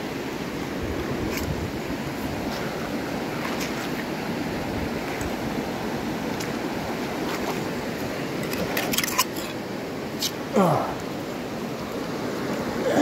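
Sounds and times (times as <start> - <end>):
river water running: 0.0 - 13.0.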